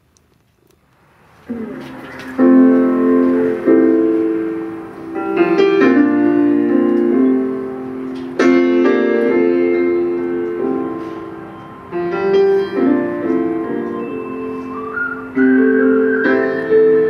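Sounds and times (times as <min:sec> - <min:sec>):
slow piano chords: 0:01.0 - 0:17.0.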